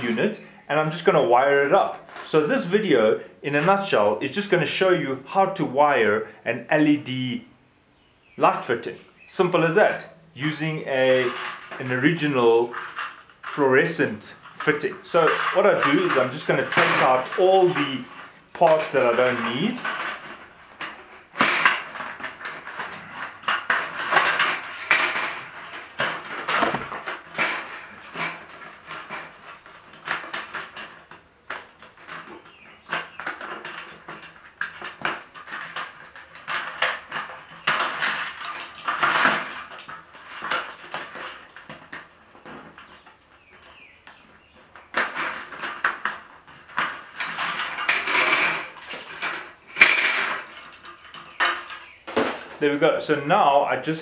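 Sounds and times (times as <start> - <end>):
clicks and rattles: 0.0 - 7.3, 8.0 - 54.0
sheet metal clattering and scraping: 9.3 - 53.3.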